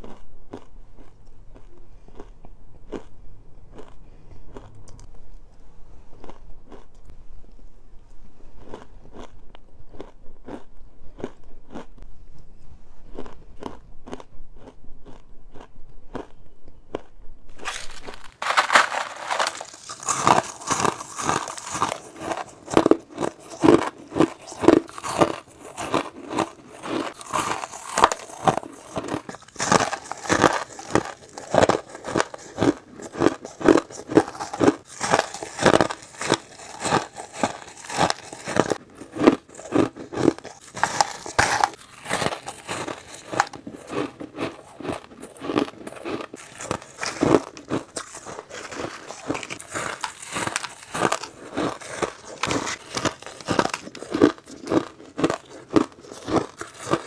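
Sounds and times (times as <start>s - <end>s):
person crunching ice: 8.5s - 11.9s, 13.1s - 57.0s.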